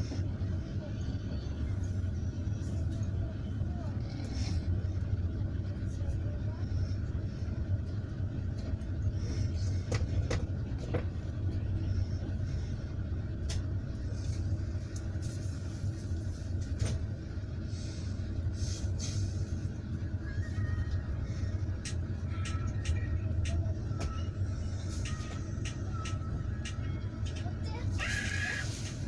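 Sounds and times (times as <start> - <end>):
train rumble from inside carriage: 0.0 - 29.0.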